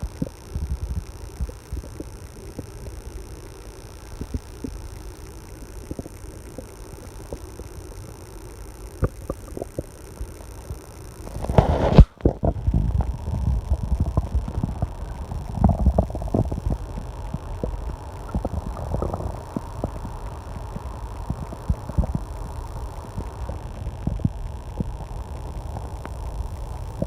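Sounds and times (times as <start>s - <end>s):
stomach growling and gurgling: 0.0s - 27.0s.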